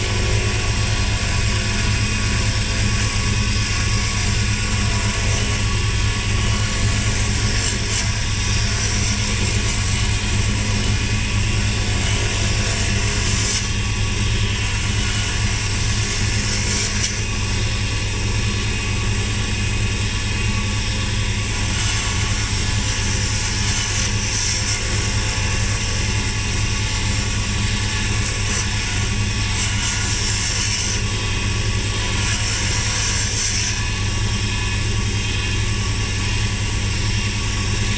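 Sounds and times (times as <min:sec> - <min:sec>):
chisel cutting wood hiss: 0:00.0 - 0:17.5, 0:21.3 - 0:34.5
wood lathe humming: 0:00.0 - 0:37.9.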